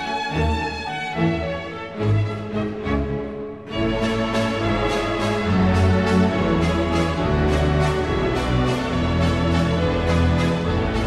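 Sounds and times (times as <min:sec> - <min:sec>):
orchestral music held chords: 0:00.0 - 0:11.0.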